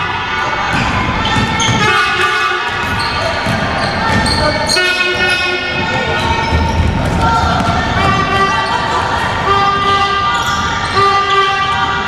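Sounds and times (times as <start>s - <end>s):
sneakers squeaking: 0.5s - 12.0s.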